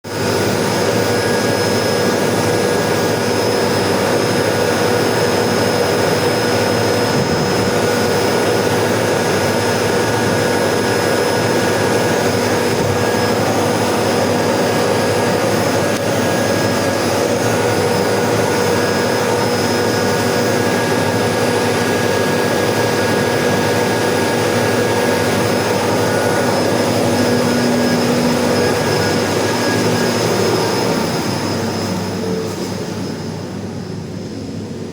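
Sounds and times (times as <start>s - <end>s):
water pump droning: 0.1s - 33.8s.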